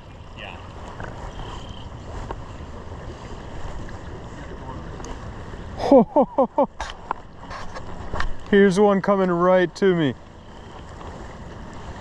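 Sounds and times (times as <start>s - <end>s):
flowing river water: 0.0s - 12.0s
wind: 0.0s - 12.0s.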